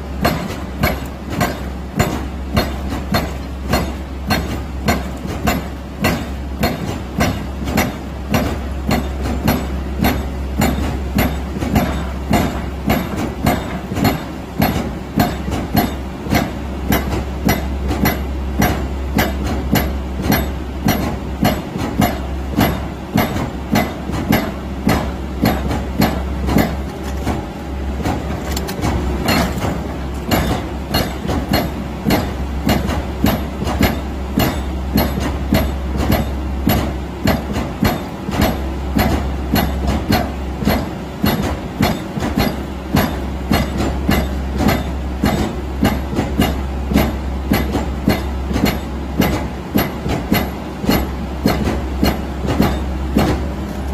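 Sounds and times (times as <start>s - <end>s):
constant low hum: 0.0s - 53.9s
hydraulic breaker pounding rock: 0.0s - 53.9s.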